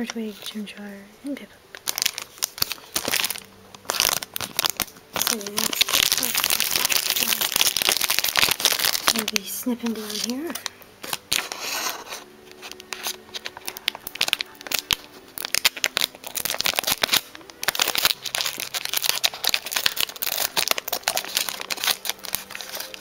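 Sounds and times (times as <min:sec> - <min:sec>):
foil wrapper crinkling: 0:00.0 - 0:23.0.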